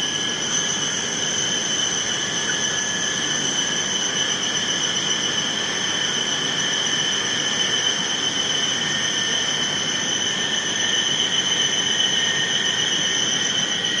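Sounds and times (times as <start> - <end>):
lathe cutting steel whine: 0.0 - 14.0.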